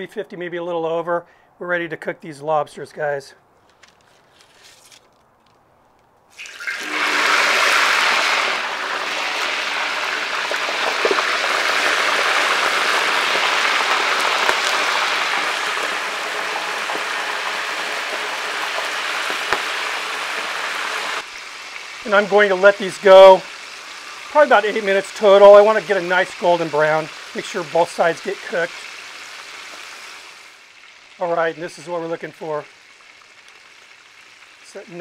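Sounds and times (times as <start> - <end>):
lobster deep-frying in hot fat: 6.3 - 35.0.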